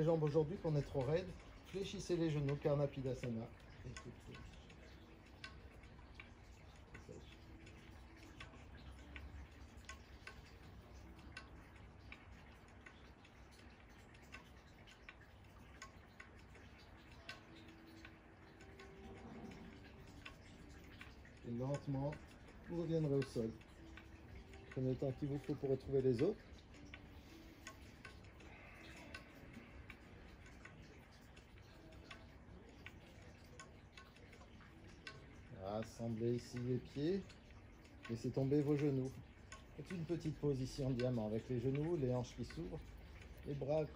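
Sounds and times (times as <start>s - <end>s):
faint regular ticking: 0.0s - 43.9s
low steady hum: 0.0s - 43.9s.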